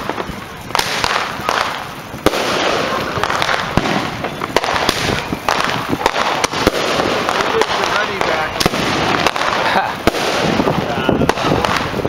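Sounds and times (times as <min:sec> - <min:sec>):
continuous fireworks noise: 0:00.0 - 0:12.0
firework bangs and cracks: 0:00.0 - 0:12.0.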